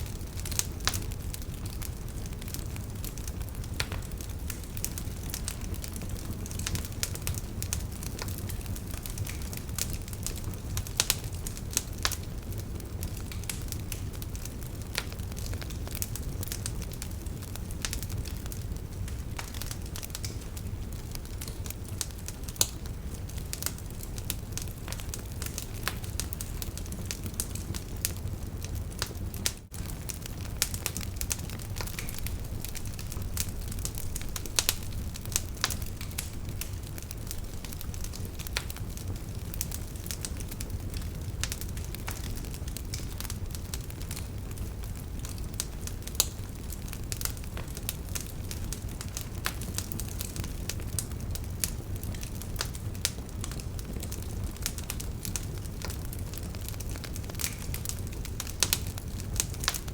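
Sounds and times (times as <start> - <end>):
burning wood crackling and popping: 0.0 - 59.9
low rush of flame: 0.0 - 59.9.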